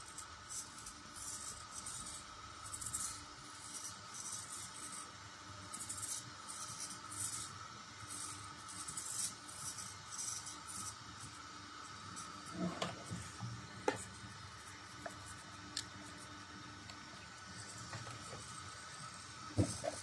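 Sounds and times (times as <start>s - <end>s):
small servos whirring: 0.0s - 20.0s.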